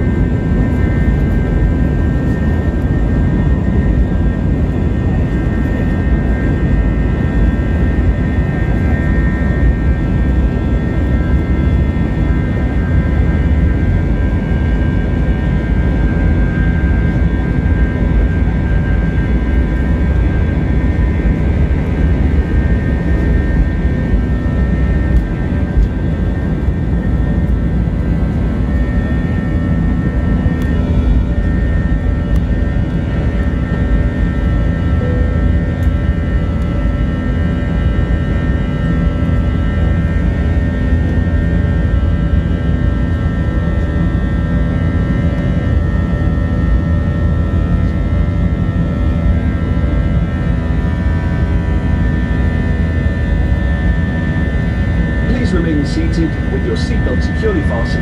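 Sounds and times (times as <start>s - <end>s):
jet engines rumbling with fan whine: 0.0s - 58.0s.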